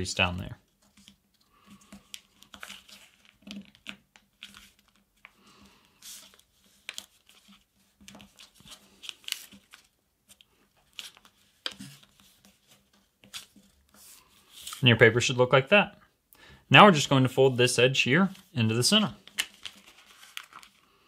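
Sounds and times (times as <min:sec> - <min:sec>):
paper rustling and crinkling: 0:00.7 - 0:14.9, 0:18.3 - 0:21.0.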